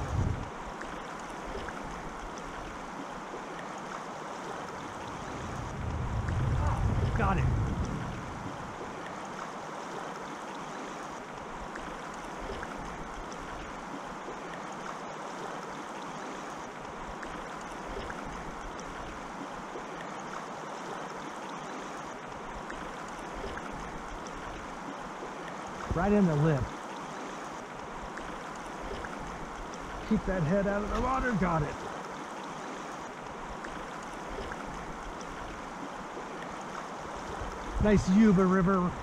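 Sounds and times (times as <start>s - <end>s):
shallow river current rushing: 0.0s - 39.0s.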